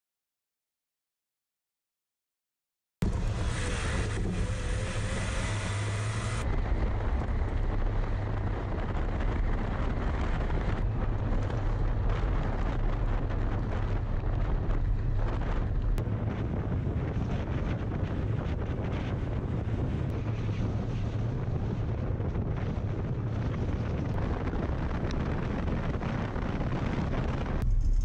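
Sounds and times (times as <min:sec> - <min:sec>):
engine rumble: 0:03.0 - 0:28.0
wind buffeting microphone: 0:03.0 - 0:28.0.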